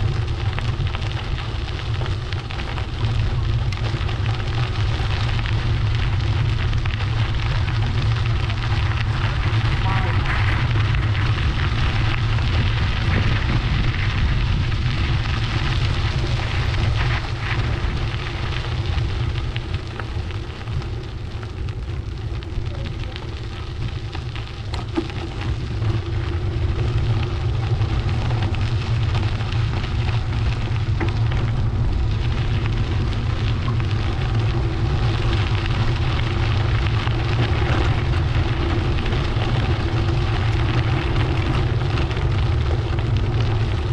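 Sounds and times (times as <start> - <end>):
road noise: 0.0 - 43.9
wind buffeting microphone: 0.0 - 43.9.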